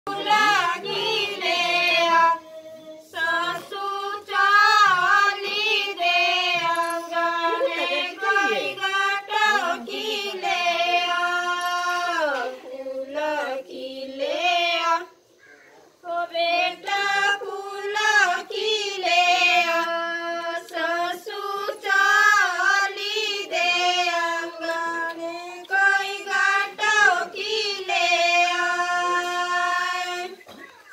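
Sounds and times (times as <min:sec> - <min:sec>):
woman singing unaccompanied: 0:00.1 - 0:15.2, 0:16.0 - 0:30.5.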